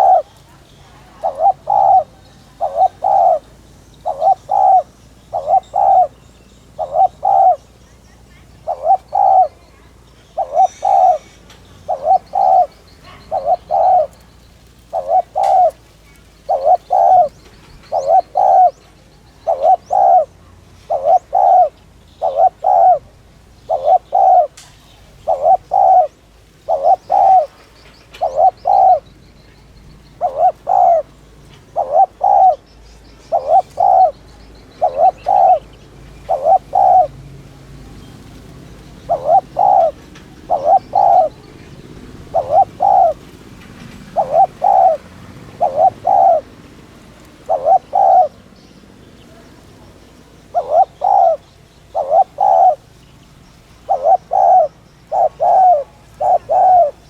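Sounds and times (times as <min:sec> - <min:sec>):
dove cooing: 0:00.0 - 0:37.2, 0:37.8 - 0:53.0, 0:53.6 - 0:57.0
small birds chirping: 0:00.0 - 0:57.0.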